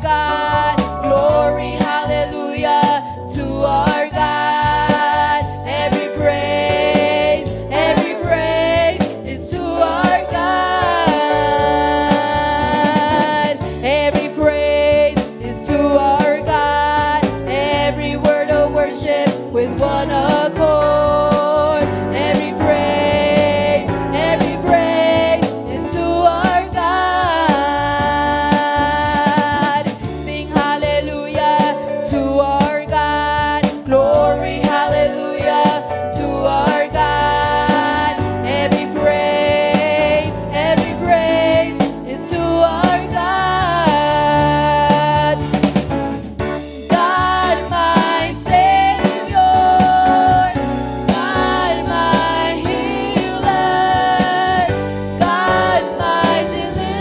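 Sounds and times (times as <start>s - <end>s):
gospel band playing: 0.0s - 57.0s.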